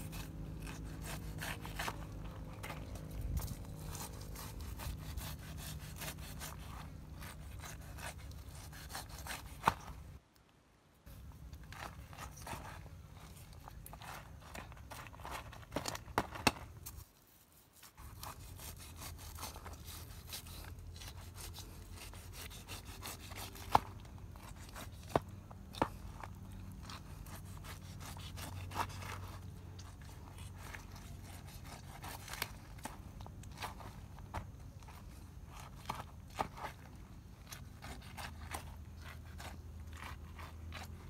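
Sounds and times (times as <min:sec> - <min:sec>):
knife slicing and scraping fruit: 0:00.0 - 0:10.2, 0:11.1 - 0:41.0.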